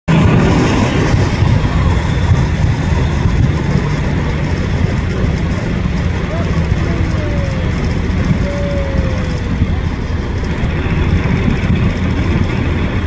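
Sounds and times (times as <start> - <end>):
heavy engine rumbling: 0.1 - 13.0.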